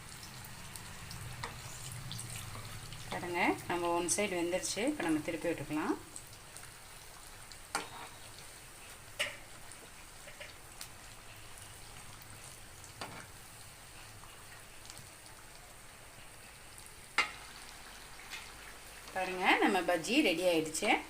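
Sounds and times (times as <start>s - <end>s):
fritters sizzling in hot oil: 0.0s - 21.0s.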